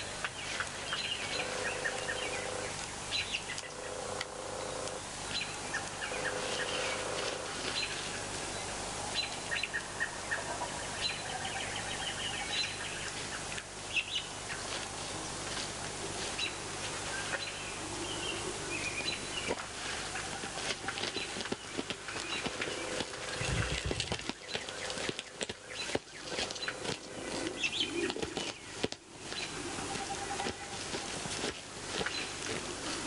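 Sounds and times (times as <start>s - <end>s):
small birds chirping: 0.0s - 33.0s
steady outdoor hiss: 0.0s - 33.0s.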